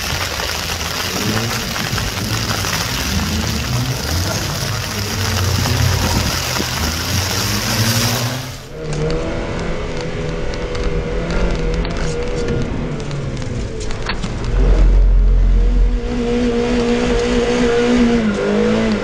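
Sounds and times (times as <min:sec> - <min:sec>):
rain on wet tarmac: 0:00.0 - 0:15.2
car engine revving: 0:00.0 - 0:19.0.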